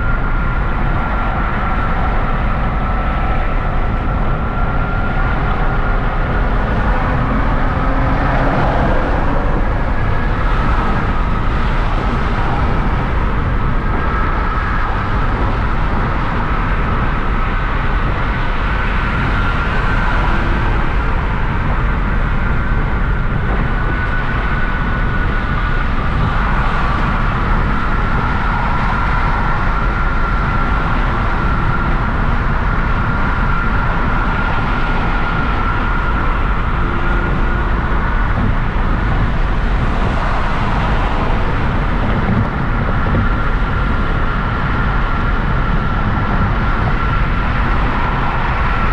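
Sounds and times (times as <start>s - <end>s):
car road and engine noise: 0.0s - 48.9s
high-pitched whine: 0.0s - 48.9s.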